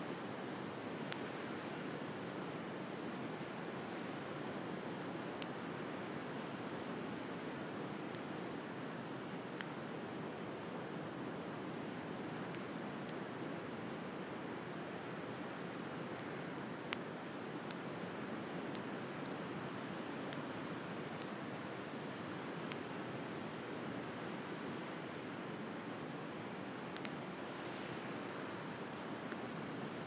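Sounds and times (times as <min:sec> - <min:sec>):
bonfire crackling: 0:00.1 - 0:30.0.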